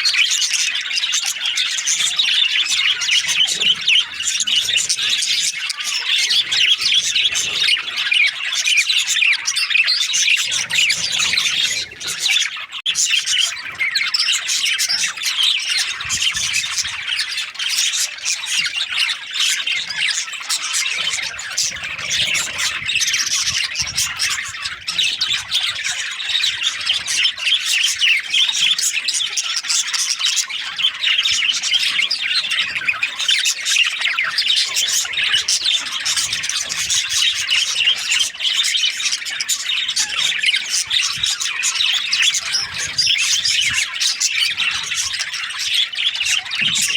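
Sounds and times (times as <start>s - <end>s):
budgerigars chattering: 0.0s - 46.9s.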